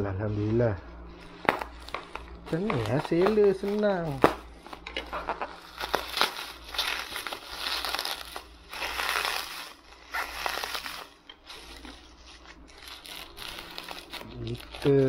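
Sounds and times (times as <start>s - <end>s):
bubble wrap crinkling: 0.4s - 15.0s.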